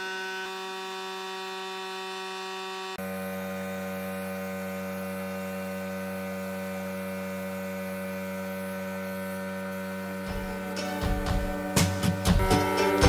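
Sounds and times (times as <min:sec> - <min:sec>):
electric hum: 0:00.0 - 0:13.0.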